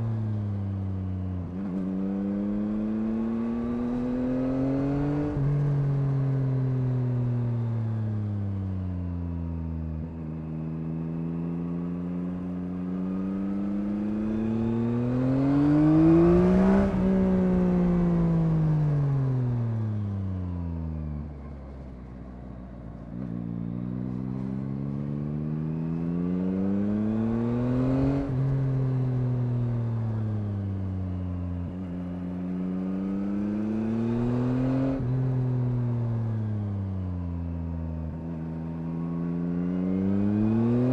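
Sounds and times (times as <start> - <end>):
motorcycle engine revving: 0.0 - 7.5, 9.7 - 21.5, 23.1 - 40.9.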